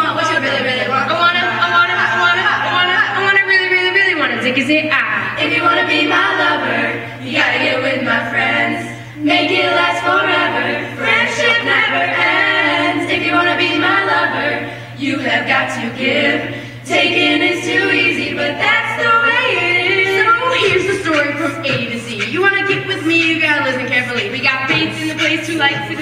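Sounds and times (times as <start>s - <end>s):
low electrical hum: 0.0s - 26.0s
women singing a cappella: 0.0s - 26.0s.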